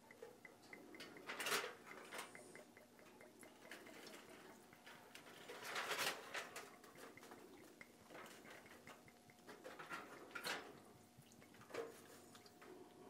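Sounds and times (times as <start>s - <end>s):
liquid trickling from a bottle: 0.0s - 13.0s.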